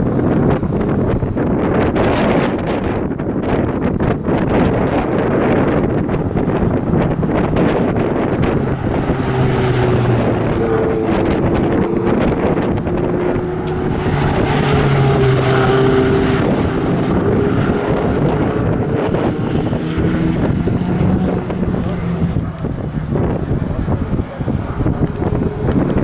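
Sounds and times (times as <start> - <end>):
car engine revving: 0.0 - 26.0
wind buffeting microphone: 0.0 - 26.0.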